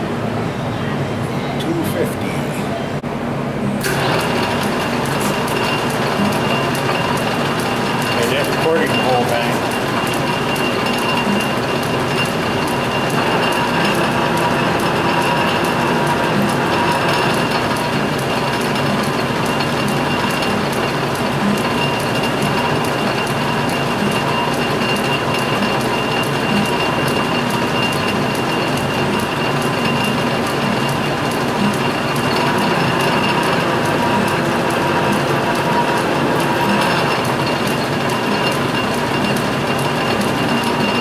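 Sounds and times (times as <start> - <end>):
lathe gear whine: 3.8 - 41.0
rapid regular clicking: 3.9 - 41.0.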